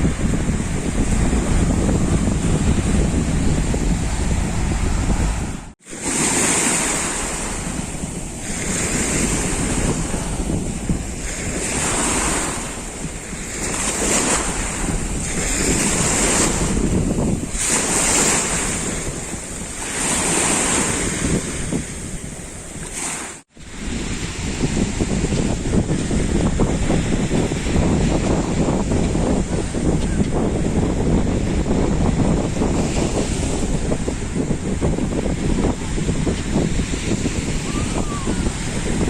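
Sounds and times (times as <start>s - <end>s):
waves washing over pebbles: 0.0s - 39.0s
wind buffeting microphone: 0.0s - 39.0s.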